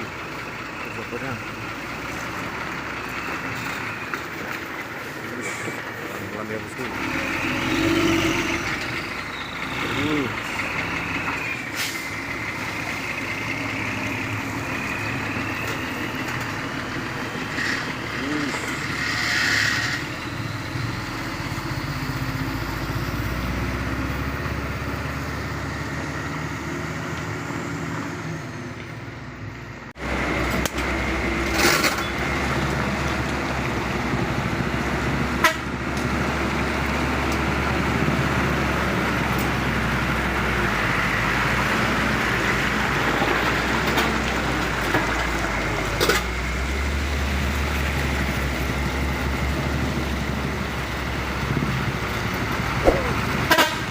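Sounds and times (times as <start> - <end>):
diesel trucks passing: 0.0 - 53.9.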